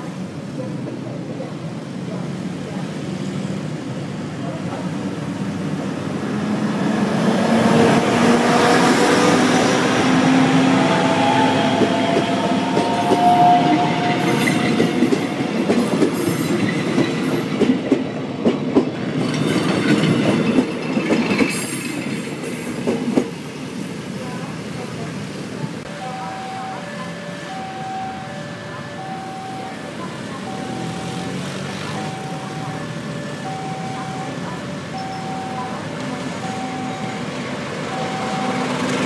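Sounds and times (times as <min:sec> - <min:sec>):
train cars rumbling past: 0:00.0 - 0:39.0.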